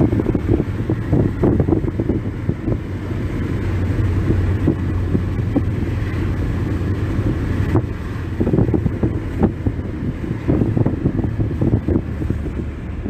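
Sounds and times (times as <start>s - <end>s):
moving vehicle rumble: 0.0s - 13.0s
wind noise: 0.0s - 13.0s.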